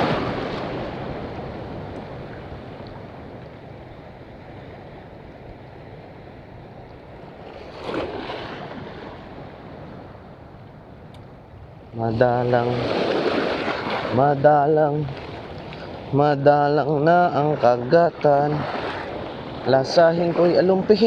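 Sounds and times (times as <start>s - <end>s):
waves breaking in shallows: 0.0s - 21.0s.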